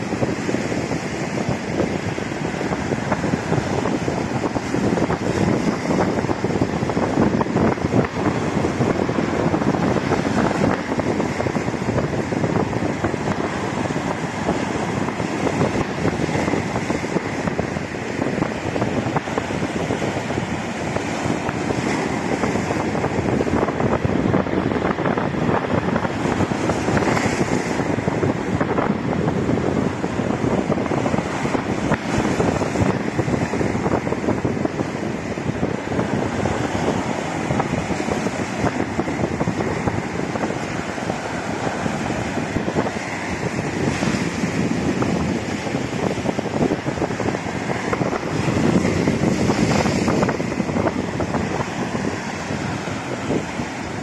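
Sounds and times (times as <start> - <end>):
sea surf breaking: 0.0 - 54.0
wind buffeting microphone: 0.0 - 54.0.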